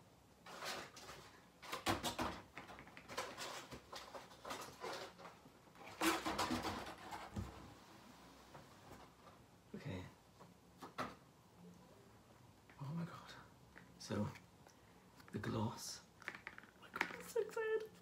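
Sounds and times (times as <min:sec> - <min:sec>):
rustling and knocking of objects: 0:00.4 - 0:09.6, 0:10.3 - 0:11.4, 0:13.6 - 0:18.0.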